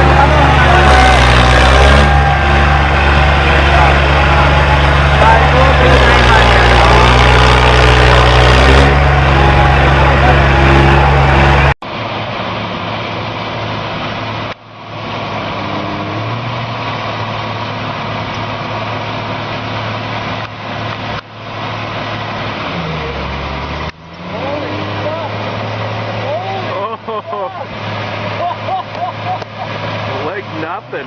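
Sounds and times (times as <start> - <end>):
heavy vehicle engine drone: 0.0 - 31.0.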